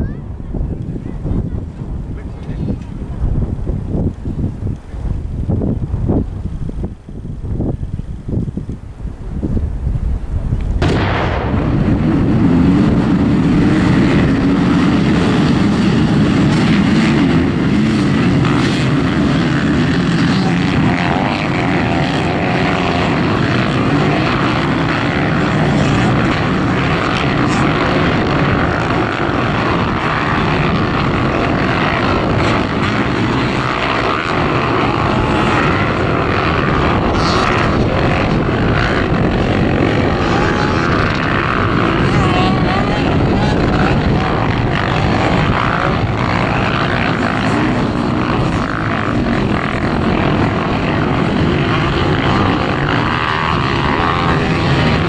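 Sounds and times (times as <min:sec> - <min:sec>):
many dirt bike engines: 0:00.0 - 0:55.0.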